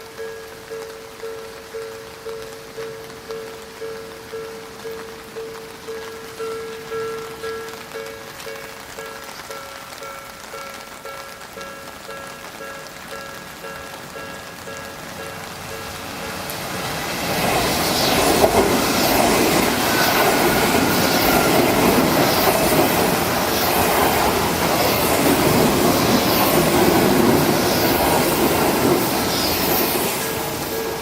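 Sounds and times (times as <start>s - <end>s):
train wheels clattering on rails: 0.0s - 31.0s.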